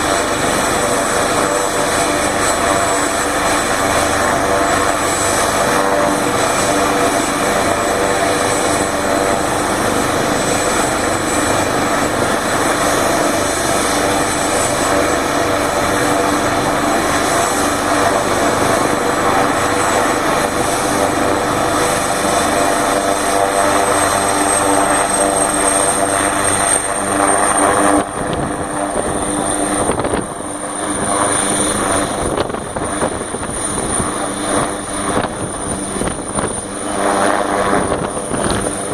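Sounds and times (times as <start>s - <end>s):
helicopter rotor and turbine: 0.0s - 38.9s
high turbine whine: 0.0s - 38.9s.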